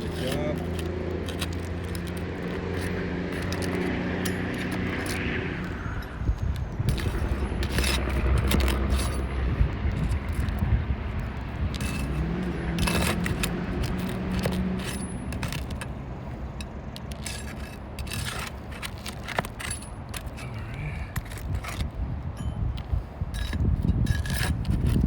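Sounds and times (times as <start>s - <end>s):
metal bar prying nails and shingles: 0.0s - 25.0s.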